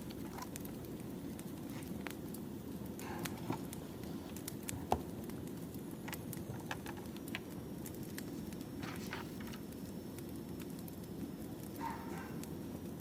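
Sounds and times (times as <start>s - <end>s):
firewood crackling: 0.0s - 13.0s.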